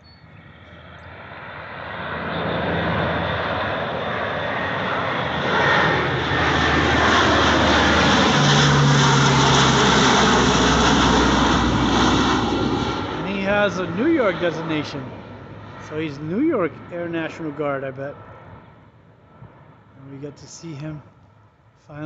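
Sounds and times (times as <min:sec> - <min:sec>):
plane flying low overhead: 0:00.0 - 0:22.0.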